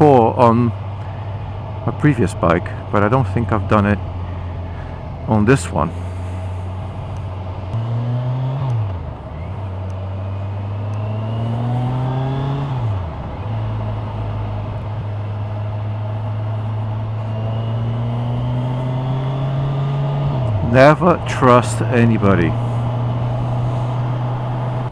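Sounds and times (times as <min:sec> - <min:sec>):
motorcycle engine revving: 0:00.0 - 0:24.9
wind and road noise: 0:00.0 - 0:24.9.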